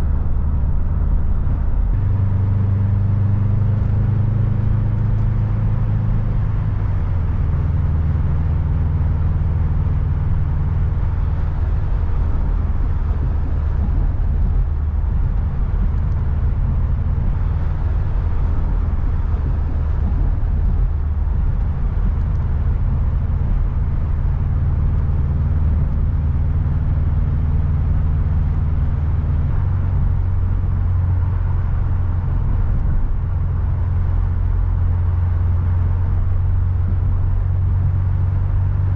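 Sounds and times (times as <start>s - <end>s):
car engine drone: 0.0s - 38.9s
road noise: 0.0s - 38.9s.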